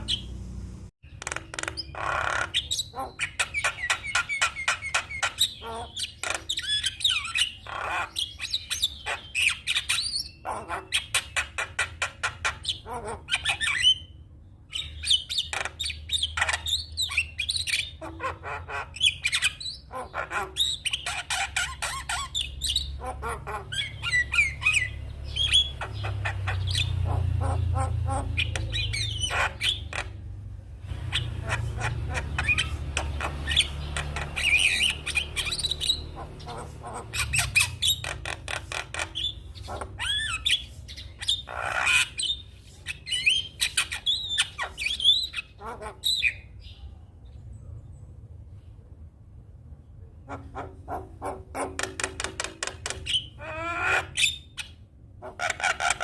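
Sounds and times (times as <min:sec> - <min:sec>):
myna bird singing: 0:00.0 - 0:48.8, 0:49.7 - 0:56.0.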